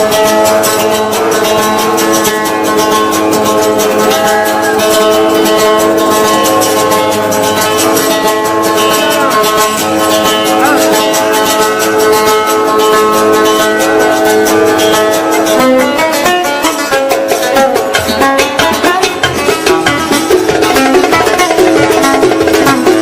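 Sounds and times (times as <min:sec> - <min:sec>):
held notes: 0:00.0 - 0:23.0
plucked string instrument: 0:00.0 - 0:23.0.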